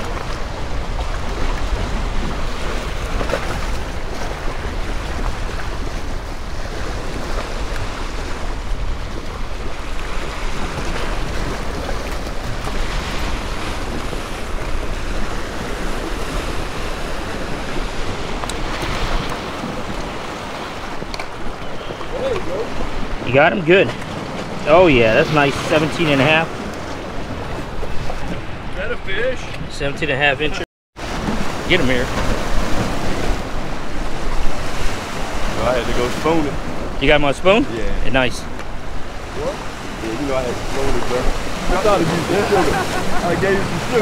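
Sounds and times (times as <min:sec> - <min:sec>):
waves washing in: 0:00.0 - 0:44.0
wind buffeting microphone: 0:00.0 - 0:44.0.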